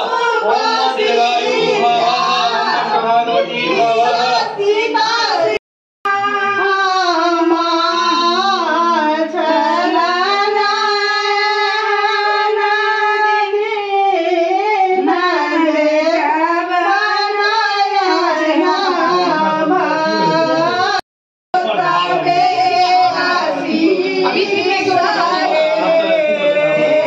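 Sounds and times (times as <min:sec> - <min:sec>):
woman singing unaccompanied: 0:03.6 - 0:21.0, 0:21.8 - 0:27.0.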